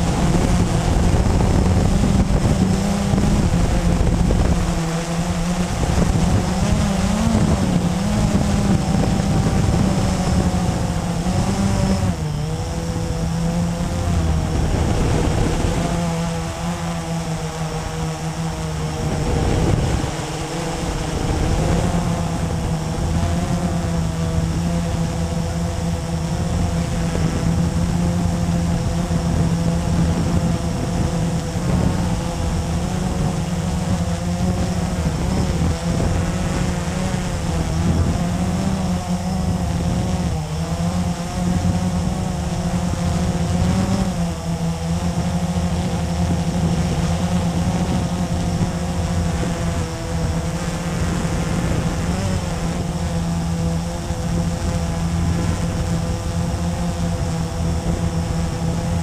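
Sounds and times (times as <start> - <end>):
quadcopter motors buzzing: 0.0 - 59.0.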